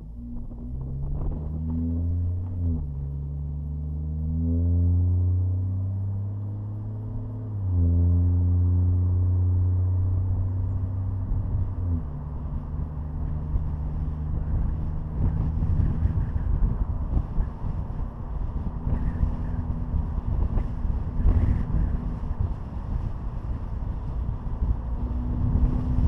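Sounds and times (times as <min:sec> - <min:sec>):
car exhaust drone: 0:00.0 - 0:26.0.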